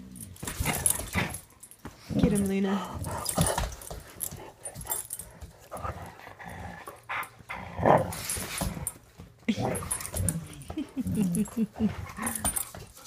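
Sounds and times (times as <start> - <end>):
dogs play-fighting: 0.0 - 13.0.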